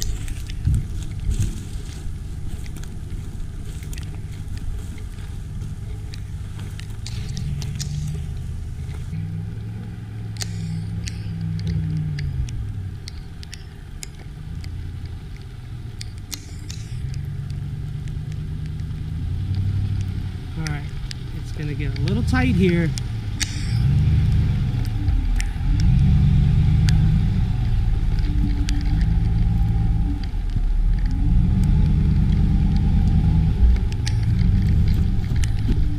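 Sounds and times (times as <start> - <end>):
truck engine running: 0.0 - 35.9
sharp clicks: 2.6 - 35.9.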